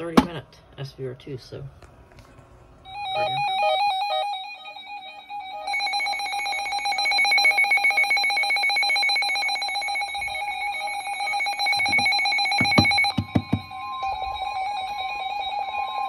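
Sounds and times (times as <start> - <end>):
electronic alert tone trilling: 2.9 - 16.0.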